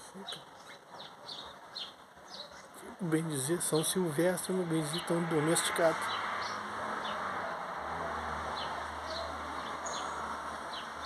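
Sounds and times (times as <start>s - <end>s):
small birds chirping: 0.0s - 7.2s, 8.6s - 11.0s.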